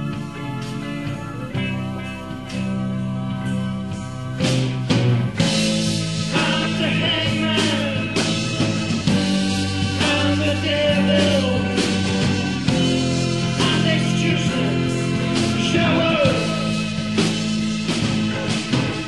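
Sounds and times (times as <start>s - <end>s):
psychedelic rock music: 0.0s - 19.0s.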